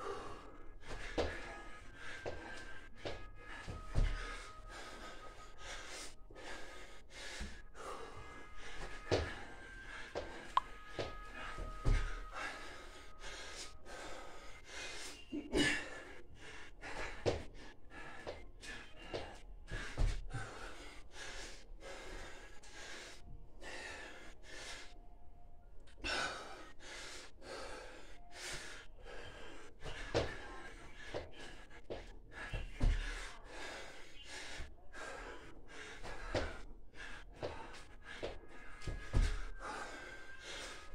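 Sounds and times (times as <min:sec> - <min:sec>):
man gasping and breathing hard: 0:00.0 - 0:24.9, 0:26.0 - 0:40.9.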